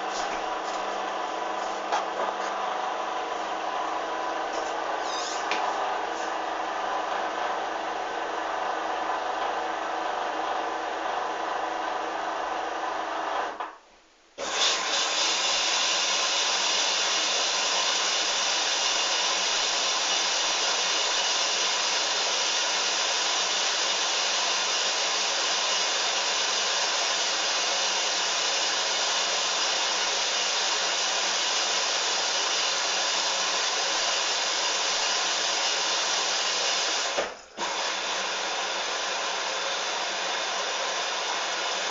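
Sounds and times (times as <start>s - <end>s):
washing machine spinning: 0.0s - 13.6s, 14.4s - 41.9s.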